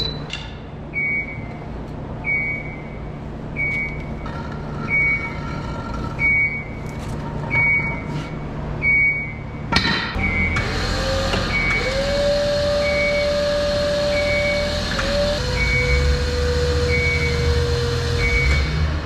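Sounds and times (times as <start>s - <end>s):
steady low hum: 0.0s - 19.0s
forklift warning beeper: 0.9s - 18.9s.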